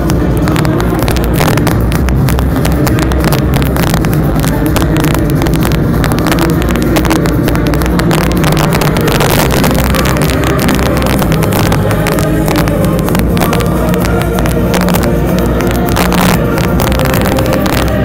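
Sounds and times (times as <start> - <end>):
fireworks crackling: 0.0 - 18.0
heavy low rumble: 0.0 - 18.0.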